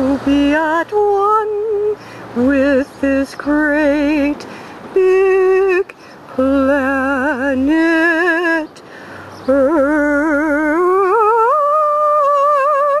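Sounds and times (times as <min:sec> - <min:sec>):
person singing wordless melody: 0:00.0 - 0:13.0.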